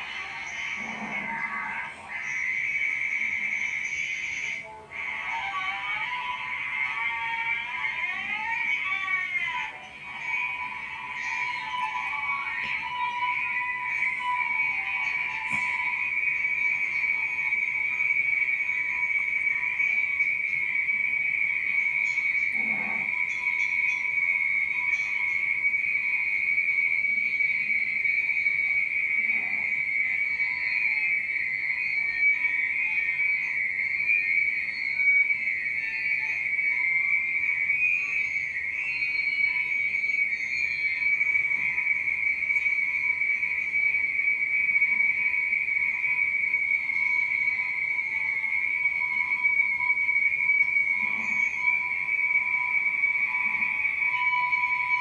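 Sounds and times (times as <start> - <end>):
high-pitched whistling tone: 0.0 - 55.0.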